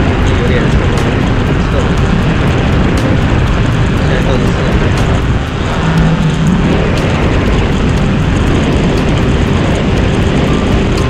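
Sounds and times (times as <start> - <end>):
loud rushing noise: 0.0 - 11.0.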